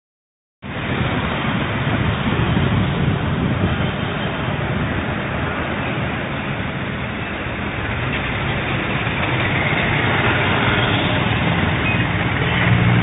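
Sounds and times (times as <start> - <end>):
cars and motorbikes passing: 0.6 - 13.0.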